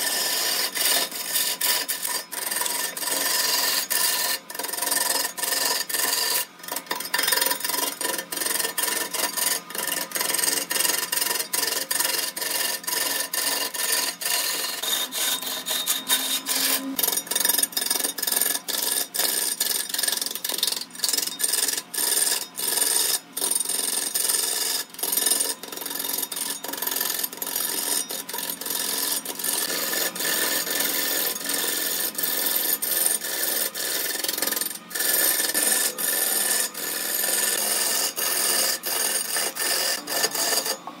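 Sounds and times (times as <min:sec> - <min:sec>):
lathe tool scraping wood: 0:00.0 - 0:41.0.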